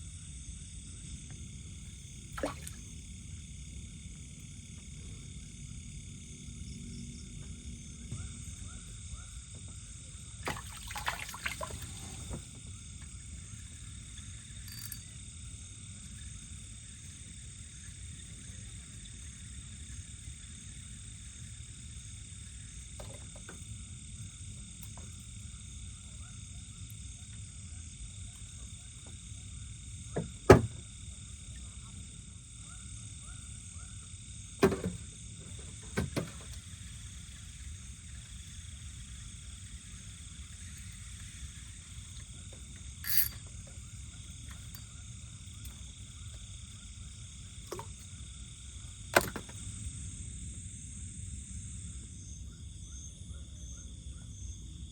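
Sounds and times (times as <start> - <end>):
frogs and insects calling: 0.0 - 54.9.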